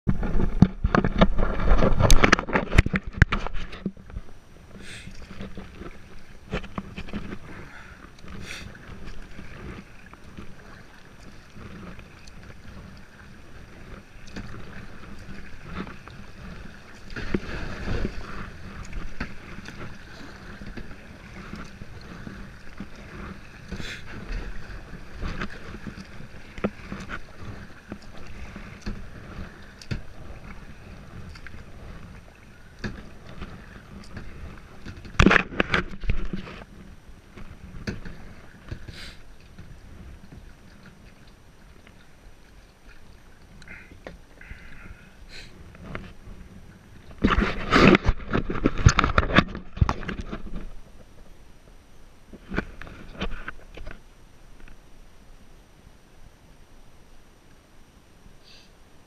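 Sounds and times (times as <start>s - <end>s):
water splashing with paddle strokes: 0.1s - 59.0s.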